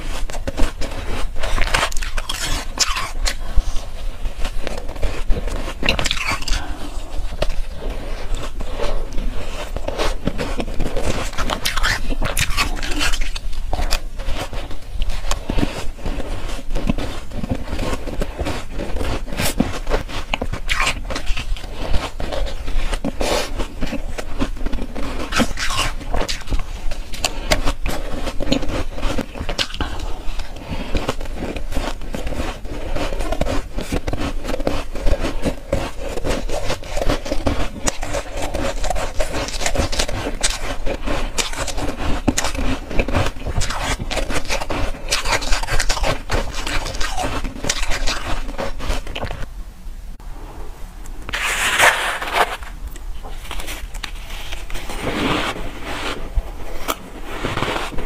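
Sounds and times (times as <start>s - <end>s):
chewing ice crunching: 0.3s - 49.4s.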